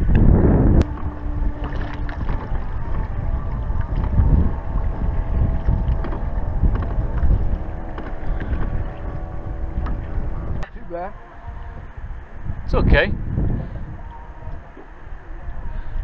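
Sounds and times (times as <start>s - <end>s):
faint steady hum: 0.0s - 16.0s
water lapping around boat: 0.0s - 16.0s
wind buffeting microphone: 0.0s - 16.0s.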